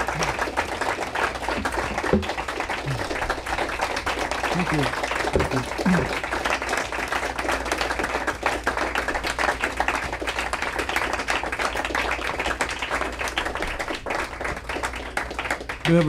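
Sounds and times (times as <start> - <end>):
audience applause: 0.0 - 16.0.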